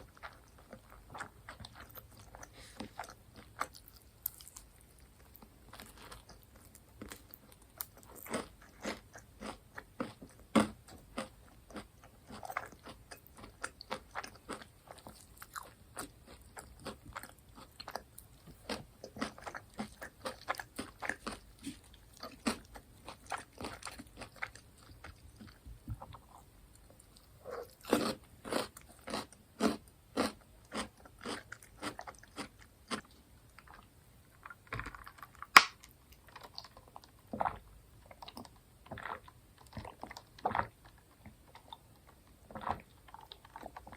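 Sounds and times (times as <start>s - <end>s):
chewing crunchy fried food: 0.0s - 43.9s.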